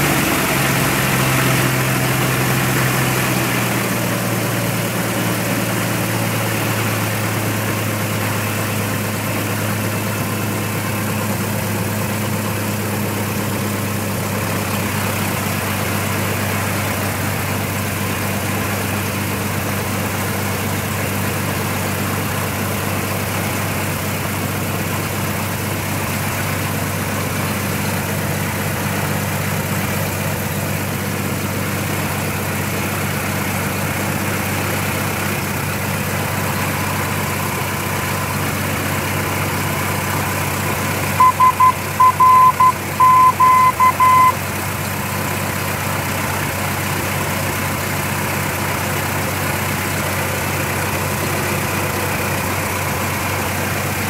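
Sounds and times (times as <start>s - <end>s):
airplane engine and propeller: 0.0s - 54.0s.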